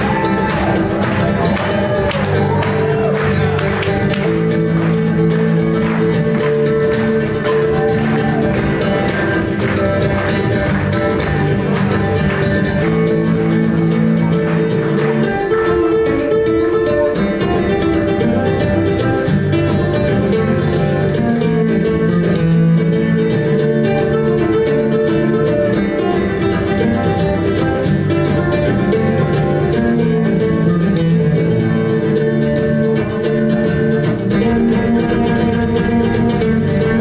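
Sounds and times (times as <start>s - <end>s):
nylon-string acoustic guitar: 0.0s - 37.0s.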